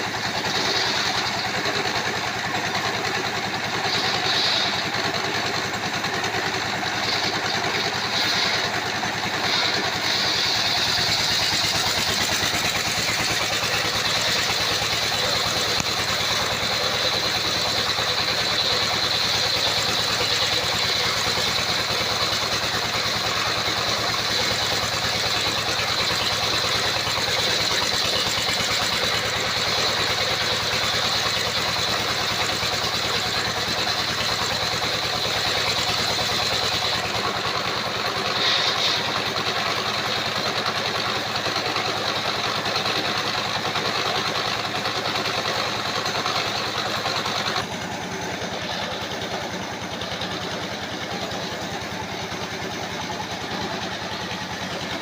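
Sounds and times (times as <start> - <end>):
circular sawmill running: 0.0 - 55.0
saw blade whine: 0.0 - 55.0.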